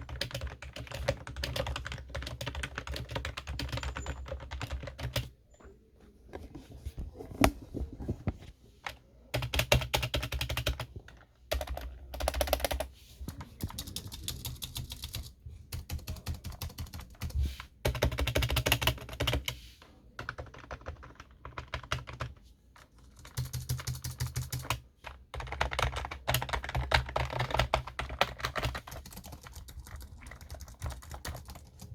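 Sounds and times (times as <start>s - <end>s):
typing on computer keyboard: 0.0s - 5.3s, 9.3s - 19.6s, 20.2s - 31.9s.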